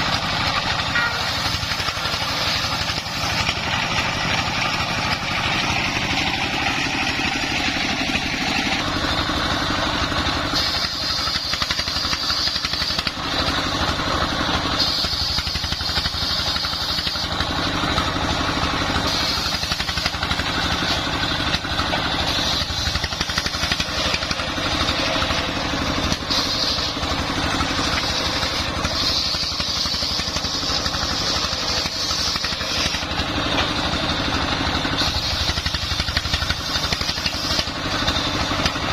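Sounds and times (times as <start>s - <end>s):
circular saw whine: 0.0s - 38.9s
diesel engine running: 0.0s - 38.9s.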